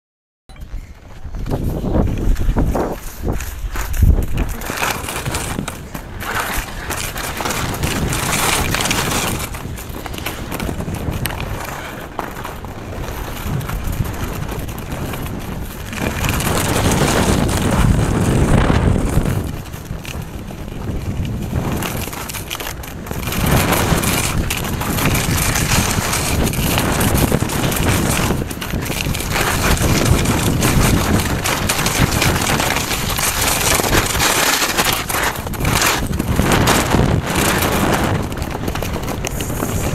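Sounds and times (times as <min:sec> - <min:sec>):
wind rushing over microphone: 0:00.5 - 0:39.9
skis scraping on packed snow: 0:00.8 - 0:39.9.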